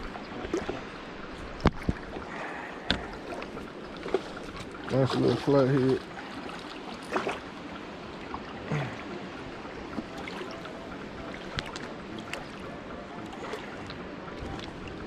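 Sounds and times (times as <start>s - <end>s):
water rushing below a spillway: 0.0s - 15.0s.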